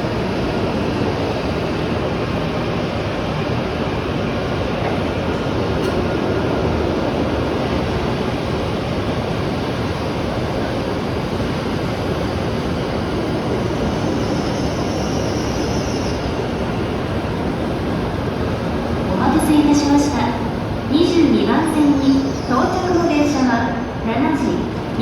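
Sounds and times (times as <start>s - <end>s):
train rumbling and rolling: 0.0s - 25.0s.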